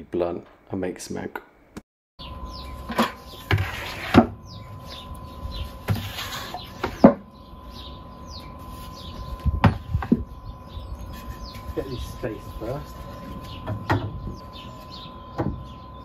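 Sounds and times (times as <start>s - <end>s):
small birds chirping: 2.2s - 3.7s, 4.4s - 16.0s.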